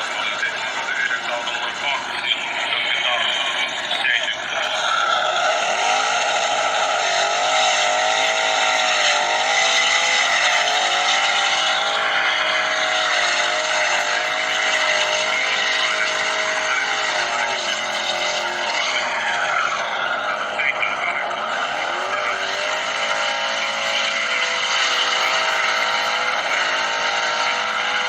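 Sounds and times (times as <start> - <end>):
car engine at high revs: 0.0 - 28.0.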